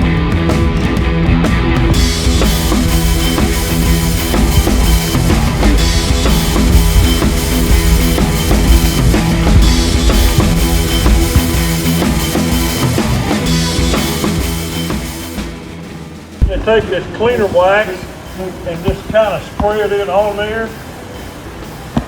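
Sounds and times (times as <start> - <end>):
rock music with drums and bass: 0.0 - 21.8.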